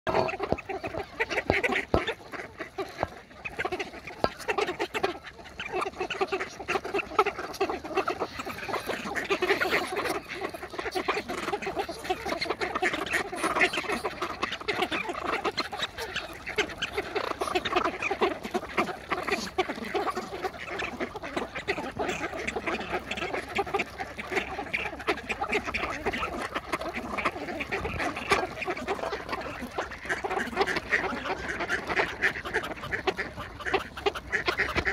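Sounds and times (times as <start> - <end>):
duck bills pecking at grain: 0.1 - 34.9
ducks quacking: 0.1 - 34.9.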